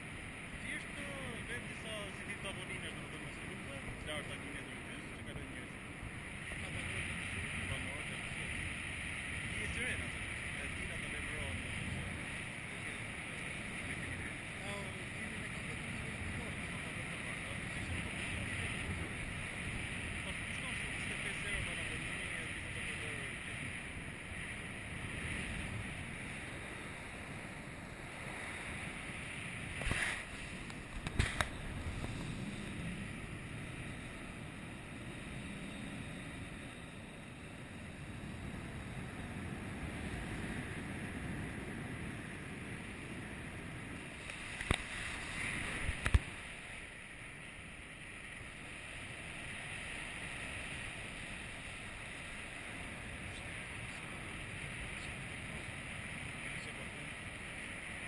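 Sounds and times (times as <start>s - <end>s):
wind rushing over microphone: 0.0s - 47.5s.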